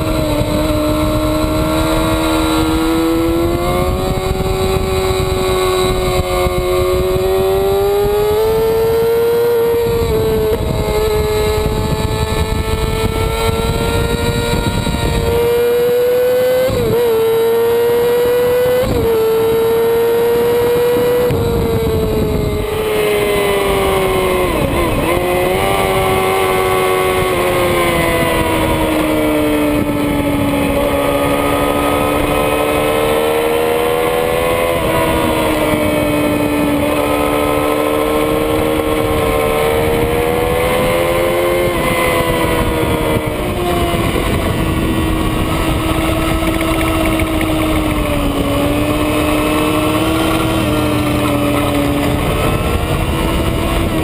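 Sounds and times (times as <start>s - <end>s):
motorcycle engine at high revs: 0.0s - 54.0s
wind rush: 0.0s - 54.0s.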